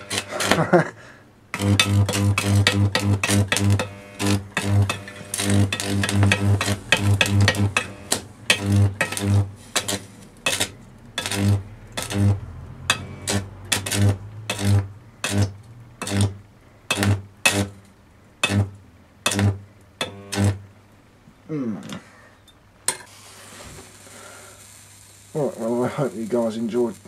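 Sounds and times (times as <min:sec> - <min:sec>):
electric arc buzzing and crackling: 0:00.0 - 0:21.0, 0:22.7 - 0:27.0
low mains buzz: 0:00.0 - 0:27.0.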